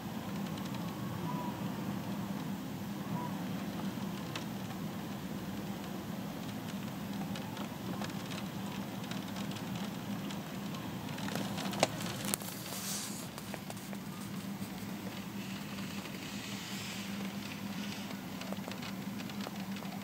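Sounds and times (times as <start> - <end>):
rain pattering: 0.0 - 20.0.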